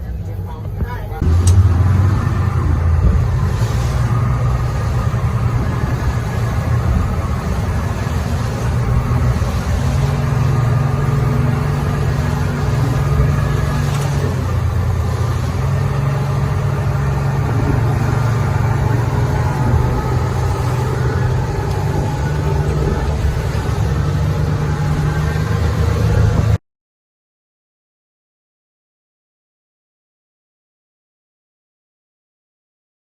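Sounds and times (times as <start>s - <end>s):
large engine running: 0.0s - 26.6s.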